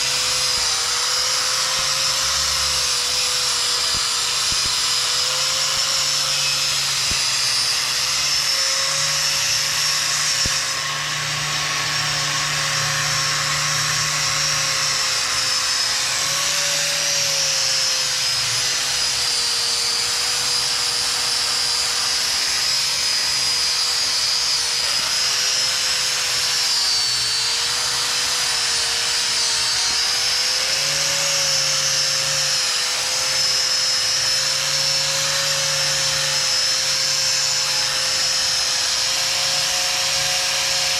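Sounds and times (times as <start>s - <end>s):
power tool motor running: 0.0s - 40.9s.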